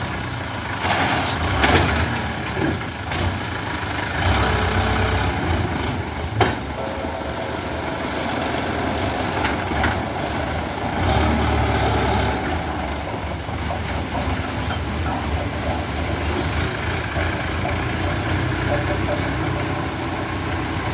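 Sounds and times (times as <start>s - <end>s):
heavy machine engine running: 0.0s - 20.9s.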